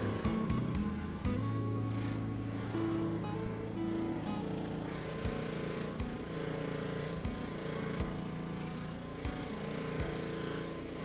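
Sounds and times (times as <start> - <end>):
pressure washer engine running: 0.0 - 11.0
water spraying on chair: 0.0 - 11.0.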